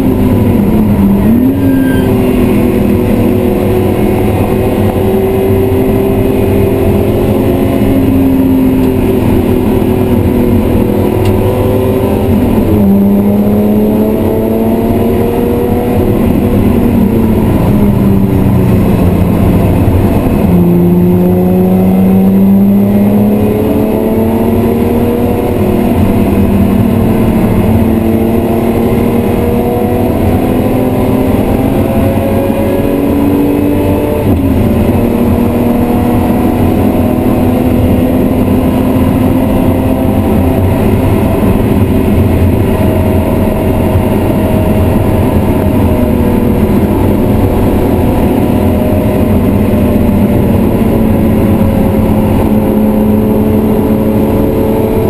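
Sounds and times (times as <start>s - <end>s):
car engine running hard: 0.0s - 55.0s
road and tyre noise: 0.0s - 55.0s.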